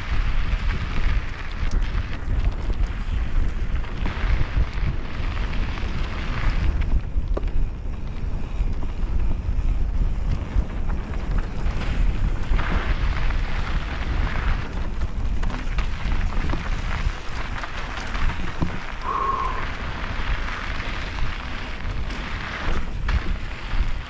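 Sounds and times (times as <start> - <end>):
bike tyres rolling on rock and dirt: 0.0 - 24.0
wind buffeting microphone: 0.0 - 24.0.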